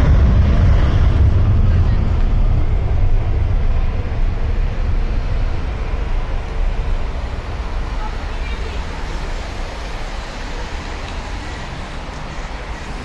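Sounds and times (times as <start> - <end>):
jet engines roaring at takeoff: 0.0 - 13.0
road traffic passing: 0.0 - 13.0.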